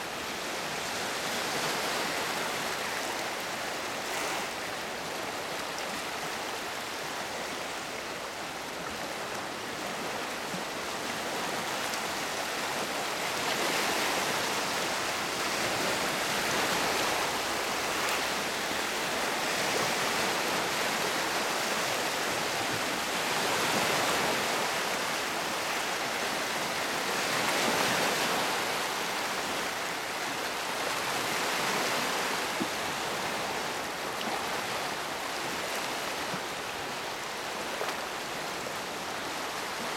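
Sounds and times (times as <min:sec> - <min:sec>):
waves washing over rocks: 0:00.1 - 0:39.9.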